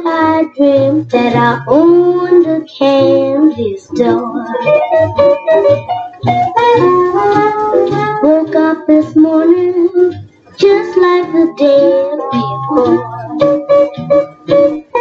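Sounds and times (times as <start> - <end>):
blues song on a record: 0.0 - 15.0.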